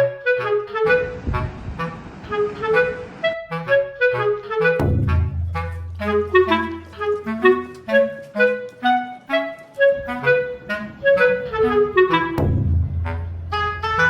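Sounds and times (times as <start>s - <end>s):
quick melody of short notes: 2.7s - 14.0s.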